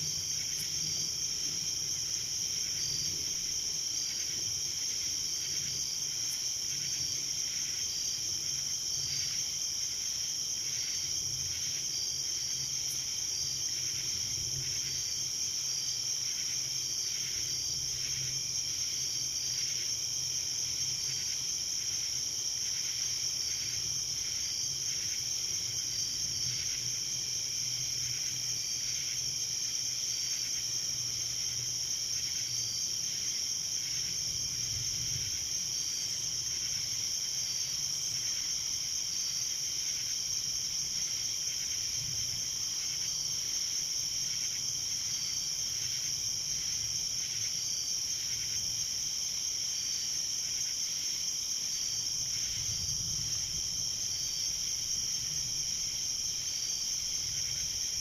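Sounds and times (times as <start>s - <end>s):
crickets trilling: 0.0s - 58.0s
faint insect chirp: 0.0s - 58.0s.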